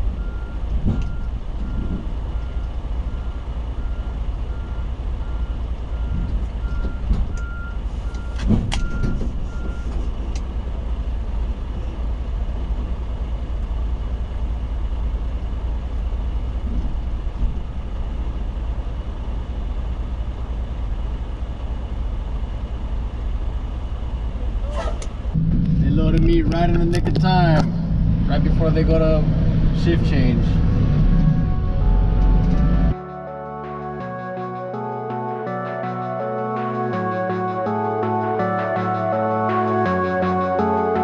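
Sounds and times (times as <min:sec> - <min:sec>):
diesel truck engine rumbling: 0:00.0 - 0:41.0.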